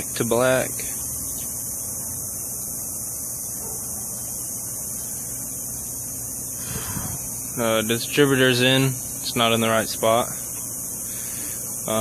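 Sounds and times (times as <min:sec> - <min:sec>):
constant hiss: 0:00.0 - 0:12.0
electrical hum: 0:00.0 - 0:12.0.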